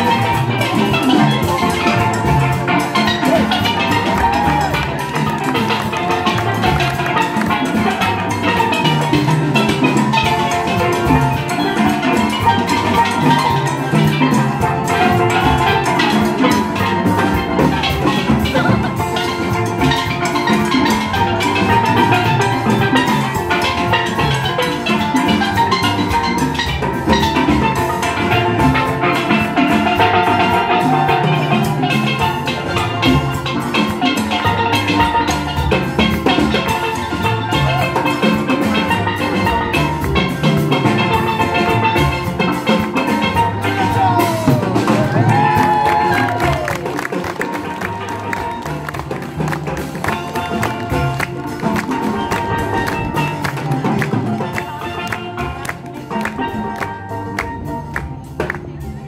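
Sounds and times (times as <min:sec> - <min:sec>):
drum and percussion beat: 0:00.0 - 0:59.0
steelpans playing melody: 0:00.0 - 0:59.0.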